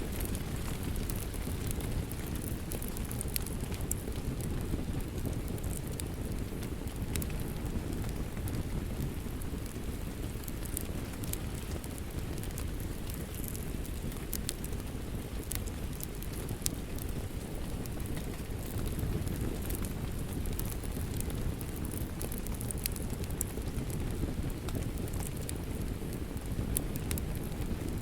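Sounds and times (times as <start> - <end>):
steady rain rumble: 0.0 - 28.0
wood fire crackling: 0.0 - 28.0.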